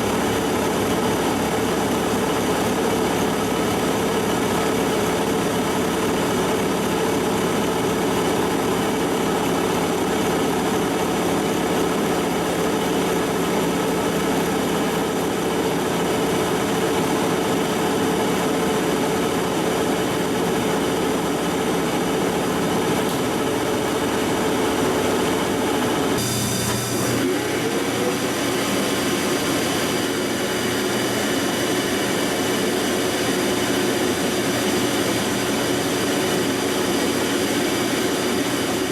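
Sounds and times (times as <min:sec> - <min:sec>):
lathe running: 0:00.0 - 0:38.9.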